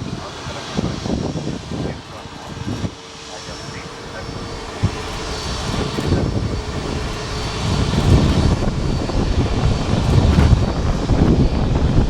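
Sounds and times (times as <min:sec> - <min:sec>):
jet engines at takeoff: 0:00.0 - 0:12.0.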